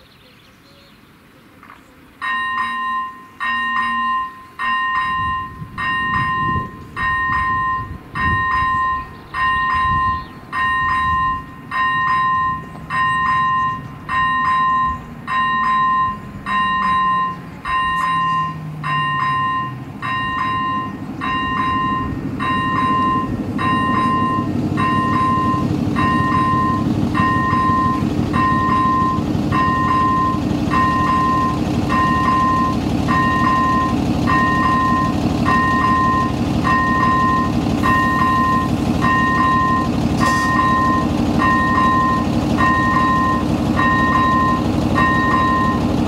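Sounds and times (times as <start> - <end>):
approaching train rumble: 0.0 - 46.0
level crossing bell dinging: 2.2 - 45.9.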